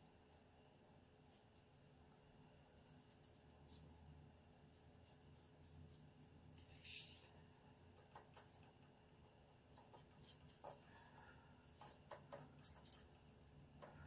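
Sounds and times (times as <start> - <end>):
paintbrush scraping in palette: 2.7 - 14.0.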